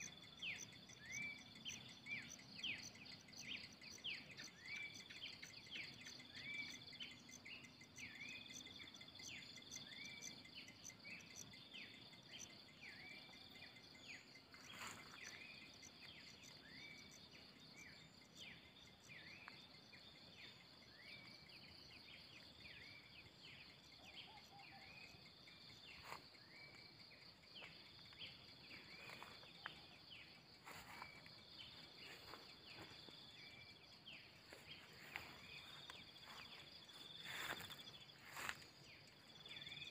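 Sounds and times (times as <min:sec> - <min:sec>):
bird chirps: 0:00.0 - 0:39.9
insects droning: 0:00.0 - 0:39.9.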